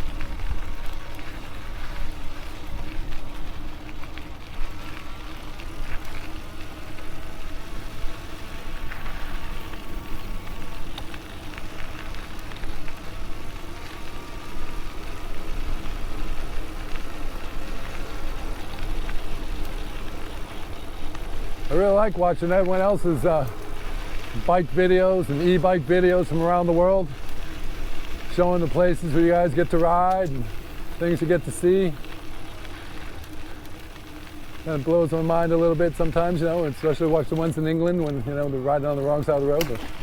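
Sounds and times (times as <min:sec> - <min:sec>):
electric motor whine: 0:00.0 - 0:40.0
wind and tyre rumble: 0:00.0 - 0:40.0.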